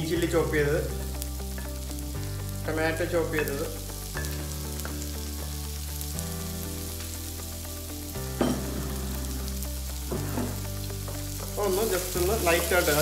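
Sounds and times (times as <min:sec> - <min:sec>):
butter sizzling in a frying pan: 0:00.0 - 0:13.0
soft background music: 0:00.0 - 0:13.0.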